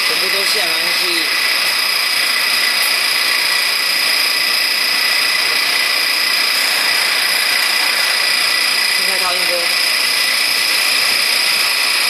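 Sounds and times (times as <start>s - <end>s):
vibratory sieve machine running: 0.0s - 12.0s.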